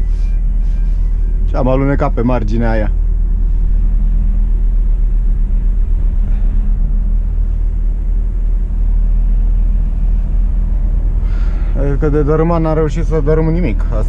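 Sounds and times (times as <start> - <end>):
diesel lorry engine humming: 0.0 - 14.0.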